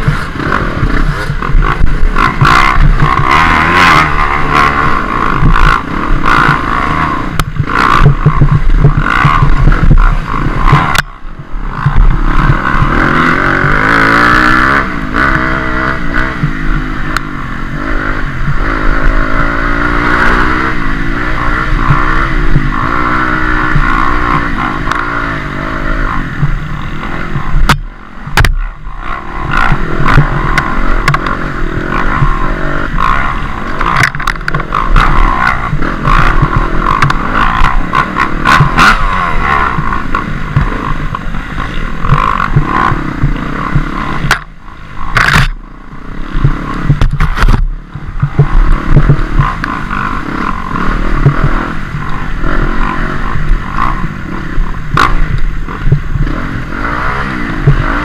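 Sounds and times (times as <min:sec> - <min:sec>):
bike clattering over rough trail: 0:00.0 - 0:58.0
dirt bike engine revving: 0:00.0 - 0:58.0.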